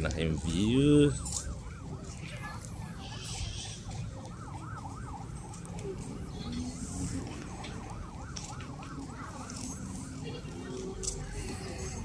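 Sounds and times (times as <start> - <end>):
siren yelping: 0.3 - 12.0.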